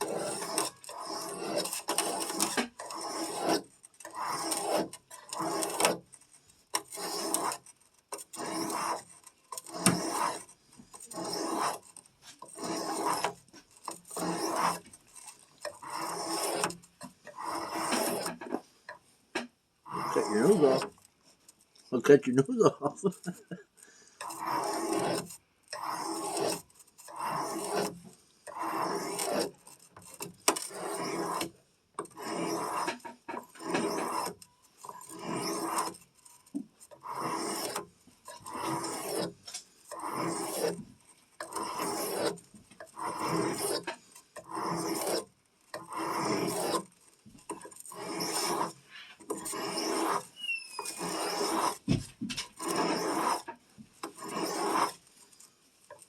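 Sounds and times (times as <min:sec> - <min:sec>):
knife scraping on sharpening stone: 0:00.0 - 0:06.0, 0:06.8 - 0:18.6, 0:19.9 - 0:21.1, 0:24.2 - 0:40.8, 0:41.4 - 0:51.8, 0:52.5 - 0:56.0.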